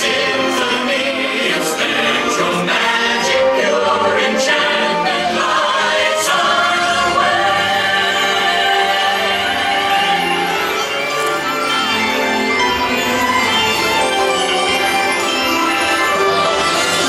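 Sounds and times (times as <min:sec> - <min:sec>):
choir singing held notes: 0:00.0 - 0:17.0.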